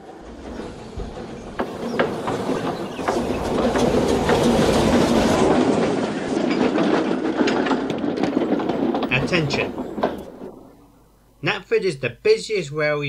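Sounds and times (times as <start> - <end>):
train wheels clicking over rails: 0.0 - 11.1.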